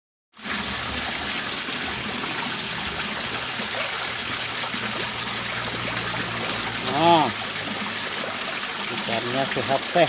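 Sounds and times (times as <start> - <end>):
water splashing into pond: 0.4 - 10.0.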